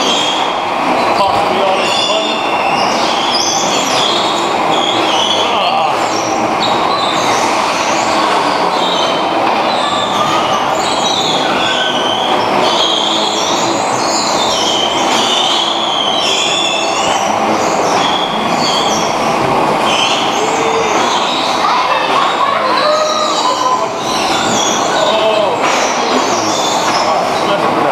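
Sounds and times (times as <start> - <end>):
bumper cars din: 0.0 - 27.9
high-pitched squeals: 0.0 - 27.9.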